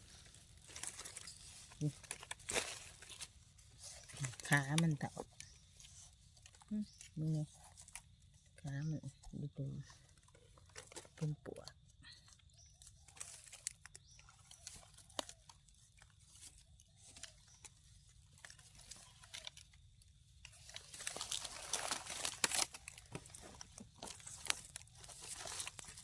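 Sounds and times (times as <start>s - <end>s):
dry leaves and twigs crunching: 0.0s - 26.0s.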